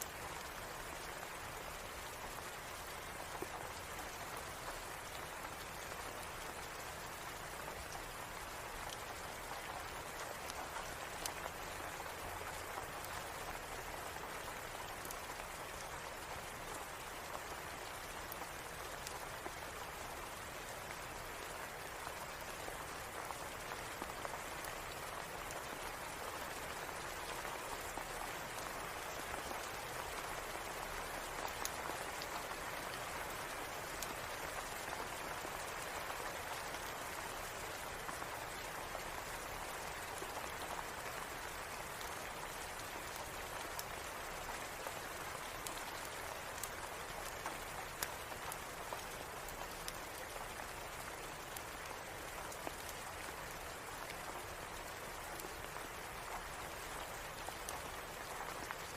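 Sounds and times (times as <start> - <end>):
rain pattering on surfaces: 0.0 - 58.9.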